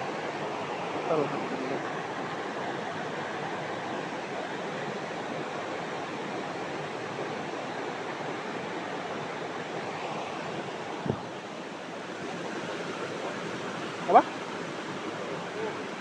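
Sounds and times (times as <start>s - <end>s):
river water rushing past rocks: 0.0s - 16.0s.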